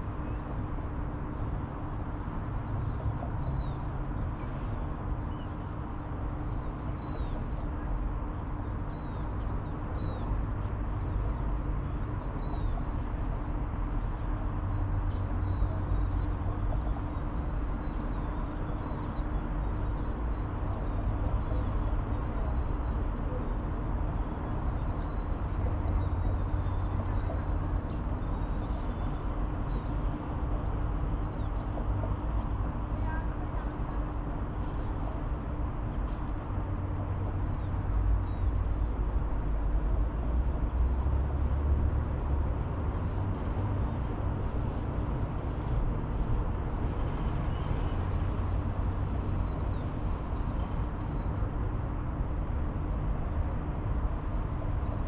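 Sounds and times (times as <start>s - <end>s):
faint constant hum: 0.0s - 55.0s.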